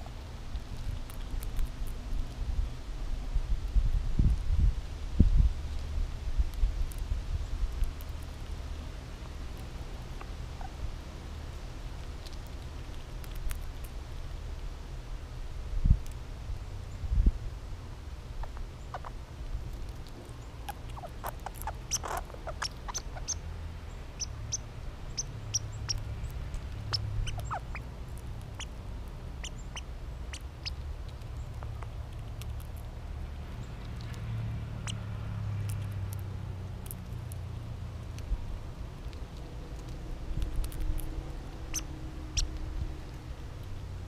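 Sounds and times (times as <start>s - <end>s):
squirrel crunching seed shells: 0.0s - 2.6s, 5.7s - 15.4s, 18.3s - 44.0s
low steady rumble: 0.0s - 44.0s.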